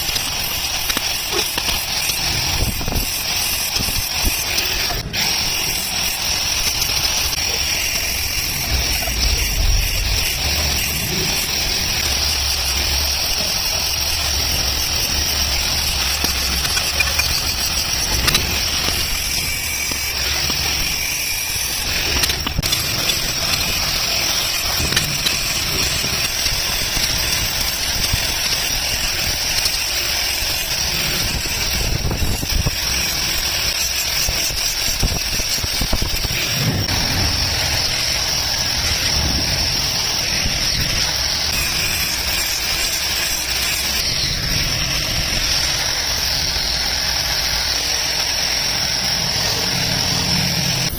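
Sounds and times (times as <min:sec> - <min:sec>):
workshop machine hiss and hum: 0:00.0 - 0:50.9.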